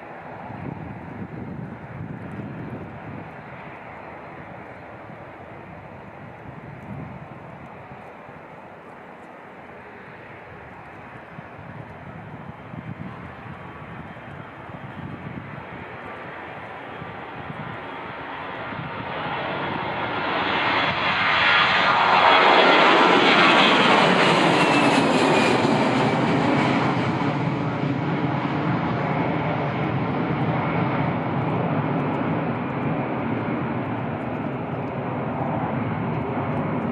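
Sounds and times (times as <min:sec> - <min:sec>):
jet airliner passing by: 0:00.0 - 0:36.9.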